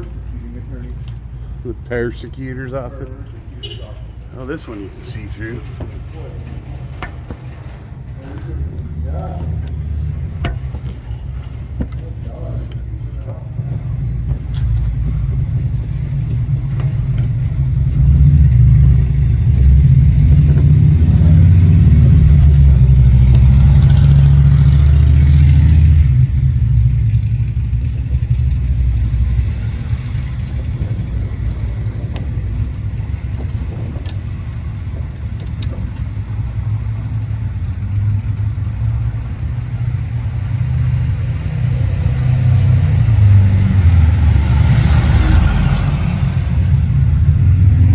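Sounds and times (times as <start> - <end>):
cars passing: 0.0 - 47.9
heavy low rumble: 0.0 - 47.9.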